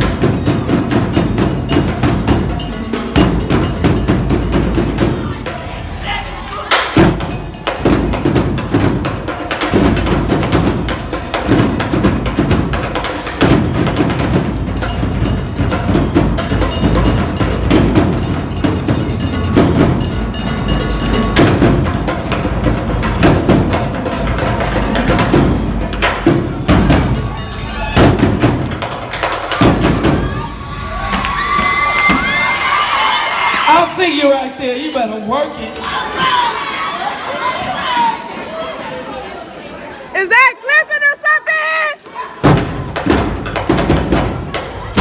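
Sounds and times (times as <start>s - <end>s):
marching drum line playing: 0.0s - 35.2s, 40.2s - 45.0s.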